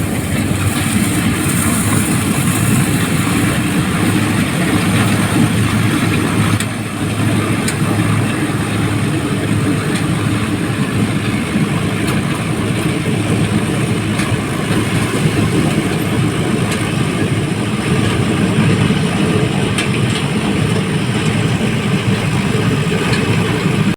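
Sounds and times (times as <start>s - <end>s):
thresher machine noise: 0.0s - 23.9s
tractor engine humming: 0.0s - 23.9s.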